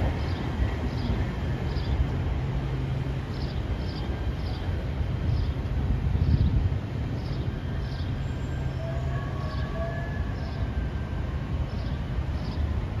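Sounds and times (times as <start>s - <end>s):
faint train whine: 0.0s - 13.0s
light-rail train rumbling: 0.0s - 13.0s.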